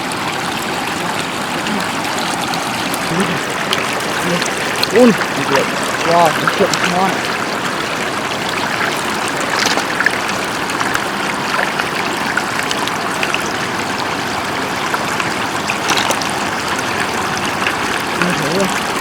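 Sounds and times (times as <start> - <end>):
floodwater flowing over road: 0.0 - 19.0.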